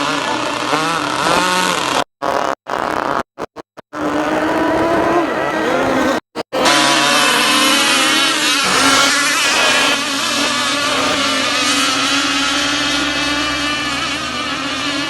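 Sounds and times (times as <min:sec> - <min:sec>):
model boat engines whining: 0:00.0 - 0:01.9, 0:04.0 - 0:15.0.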